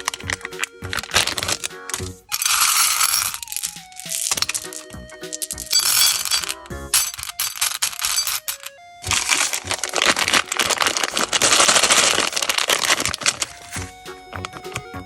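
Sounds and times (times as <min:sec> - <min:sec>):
background music with held notes: 0:00.0 - 0:15.0
plastic packaging crinkling: 0:00.0 - 0:15.0.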